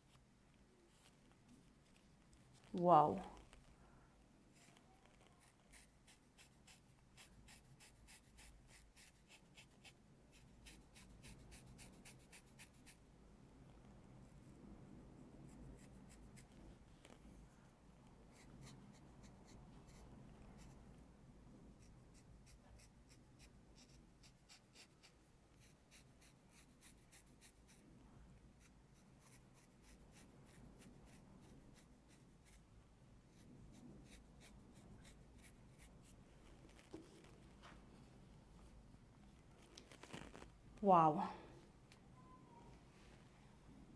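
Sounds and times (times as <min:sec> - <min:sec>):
low room hum: 0:00.0 - 0:43.9.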